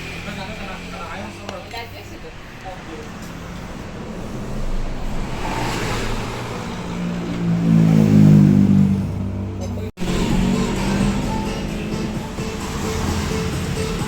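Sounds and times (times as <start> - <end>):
car engine passing: 0.0 - 14.0.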